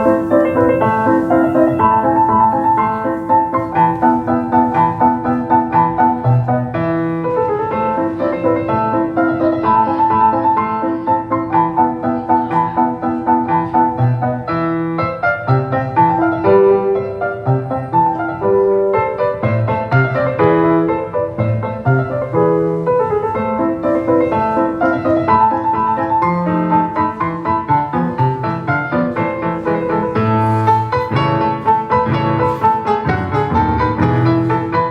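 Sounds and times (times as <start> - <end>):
piano music: 0.0 - 34.9.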